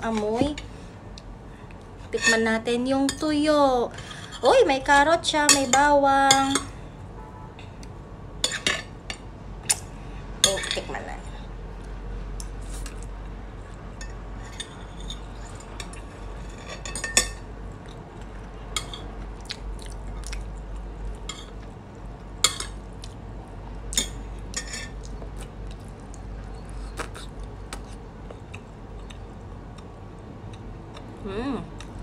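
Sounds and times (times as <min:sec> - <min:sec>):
low room hum: 0:00.0 - 0:32.0.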